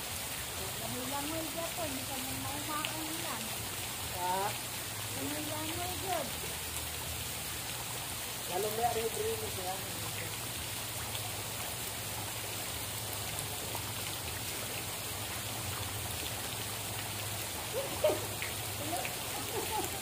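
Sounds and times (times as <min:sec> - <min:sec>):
water falling and splashing: 0:00.0 - 0:20.0.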